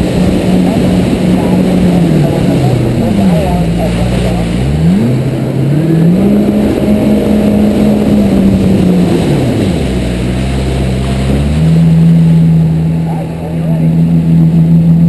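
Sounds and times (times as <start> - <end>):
personal watercraft engine: 0.0 - 15.0
rushing water and spray: 0.0 - 15.0.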